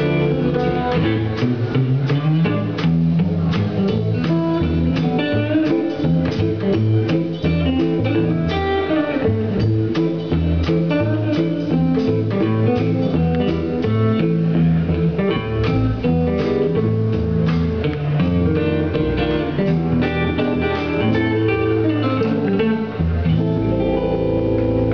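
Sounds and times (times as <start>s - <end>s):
drum kit: 0.0s - 24.9s
electric guitars picking notes: 0.0s - 24.9s.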